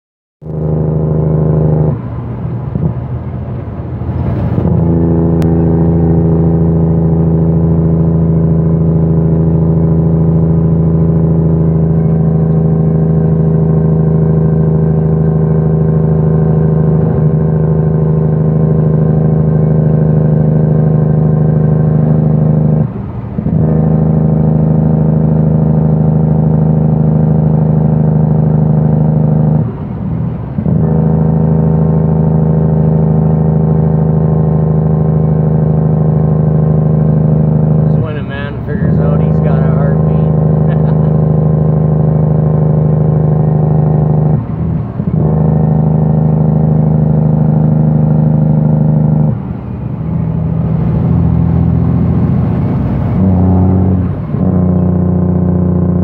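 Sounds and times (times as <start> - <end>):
diesel truck engine droning: 0.4 - 56.0.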